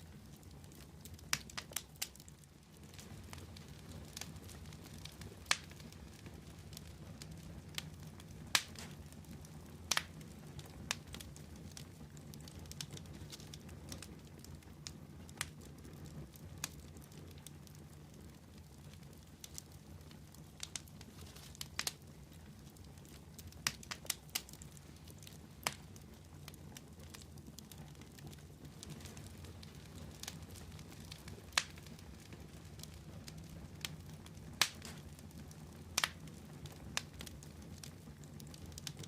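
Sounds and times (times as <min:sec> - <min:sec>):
fire crackling and popping: 0:00.0 - 0:39.0
low rumble of fire: 0:00.0 - 0:39.0.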